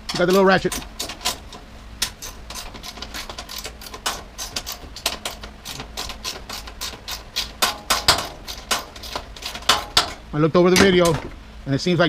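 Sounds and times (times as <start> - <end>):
hand ratchet clicking: 0.0 - 10.2.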